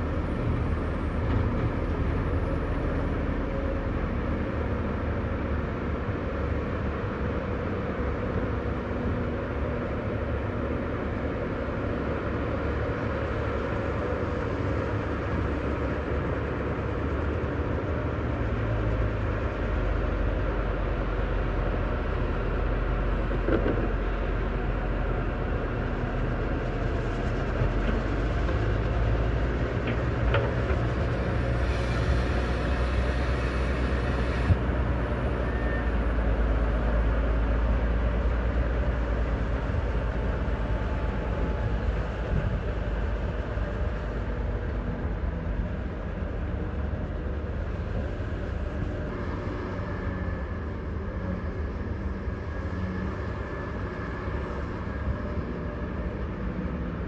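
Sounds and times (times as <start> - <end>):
heavy diesel machinery rumbling: 0.0 - 57.0.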